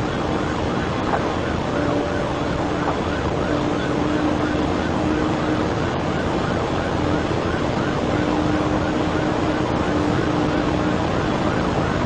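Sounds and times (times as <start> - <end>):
car engine tyre and wind noise: 0.0 - 12.0.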